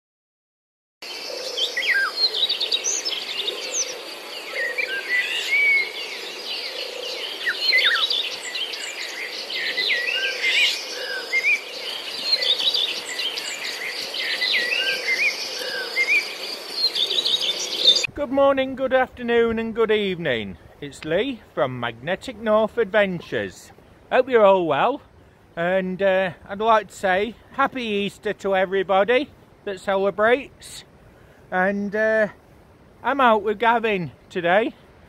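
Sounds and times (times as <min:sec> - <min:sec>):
songbirds chirping and whistling: 0:01.0 - 0:31.6.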